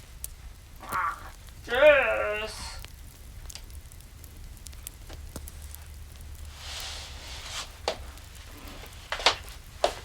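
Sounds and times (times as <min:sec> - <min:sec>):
fire crackling in fireplace: 0:00.0 - 0:10.0
soft hiss: 0:00.0 - 0:10.0.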